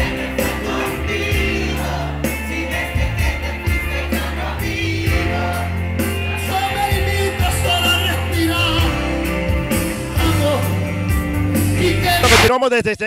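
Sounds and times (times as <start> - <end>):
live band music: 0.0 - 12.5
steady bass line: 0.0 - 12.5.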